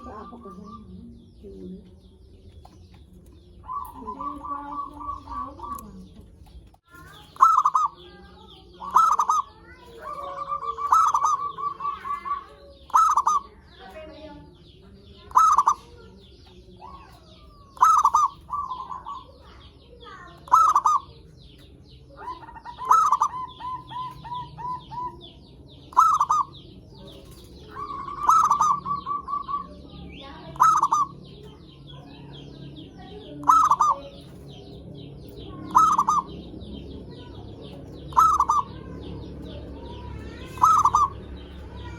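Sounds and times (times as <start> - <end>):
doves cooing: 0.0 - 41.9
small birds chirping: 0.0 - 41.9.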